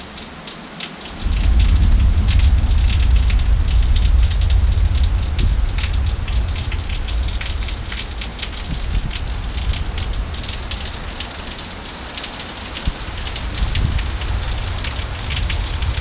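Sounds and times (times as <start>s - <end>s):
heavy rain falling: 0.0s - 16.0s
wind buffeting microphone: 1.2s - 16.0s.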